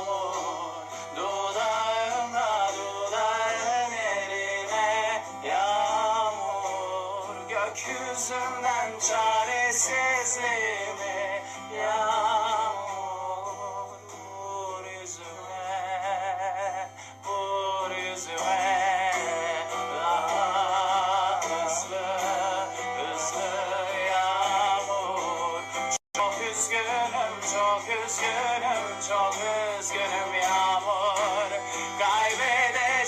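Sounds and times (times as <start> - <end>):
pop ballad with vibrato melody: 0.0 - 33.0.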